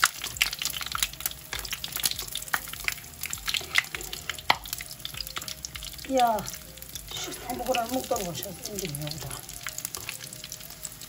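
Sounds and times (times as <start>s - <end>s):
hot oil sizzling and popping: 0.0s - 11.0s.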